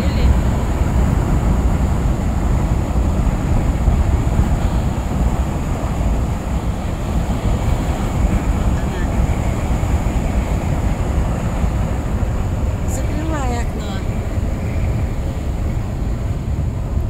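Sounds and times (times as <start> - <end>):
engine and tyre rumble: 0.0 - 17.0
wind rushing through window: 0.0 - 17.0.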